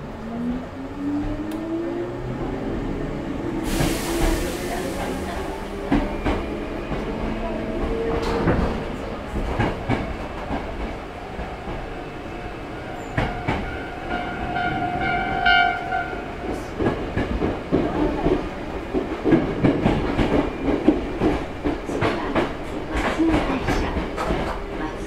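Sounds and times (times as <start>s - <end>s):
train running noise: 0.0s - 25.0s.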